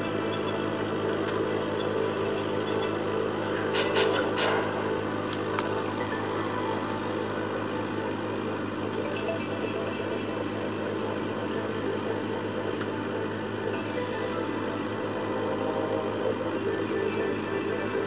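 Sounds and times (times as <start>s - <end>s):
aquarium air pump humming: 0.0s - 18.0s.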